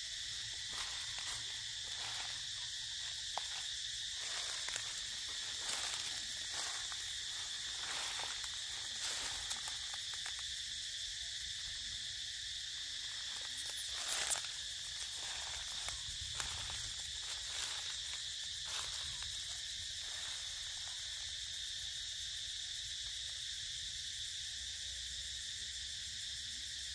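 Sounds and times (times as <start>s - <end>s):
insect chorus drone: 0.0s - 26.9s.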